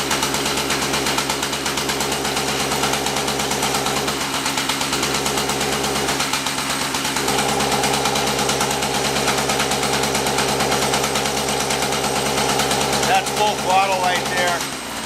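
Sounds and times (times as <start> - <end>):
small two-stroke engine at full throttle: 0.0 - 15.0.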